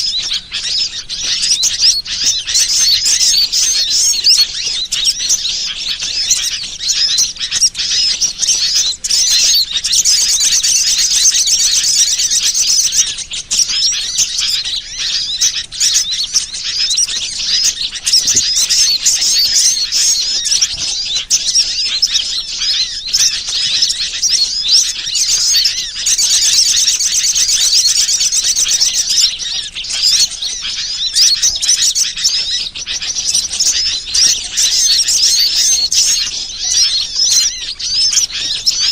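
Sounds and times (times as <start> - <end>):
fast bird trilling: 0.0 - 38.9
small birds chirping and twittering: 0.0 - 38.9.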